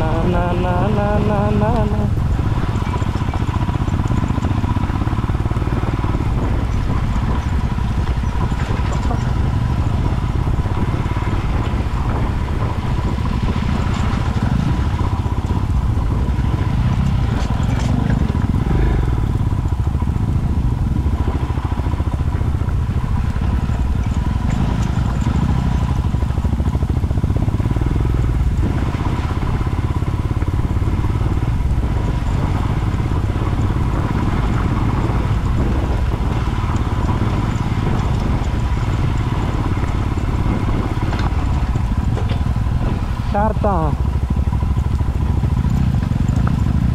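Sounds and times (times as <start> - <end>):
motorcycle engine running: 0.0 - 46.9
wind rumble on microphone: 0.0 - 46.9.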